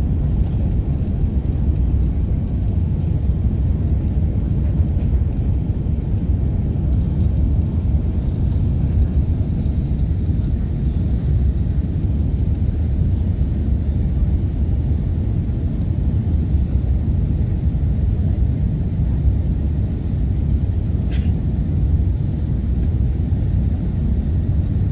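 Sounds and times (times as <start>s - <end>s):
jet engines deep rumble: 0.0s - 24.9s.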